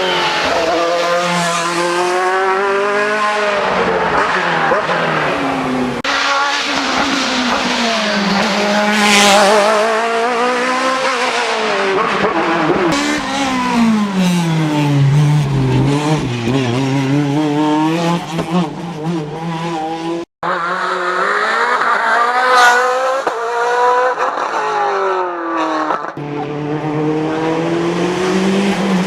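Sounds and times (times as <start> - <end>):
racing car engine at high revs: 0.0 - 29.0.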